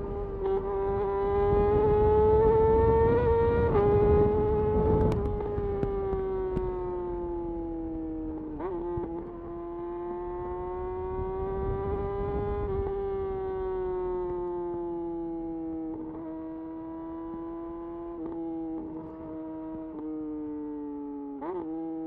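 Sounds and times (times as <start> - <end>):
motorcycle engine revving high: 0.0 - 20.4.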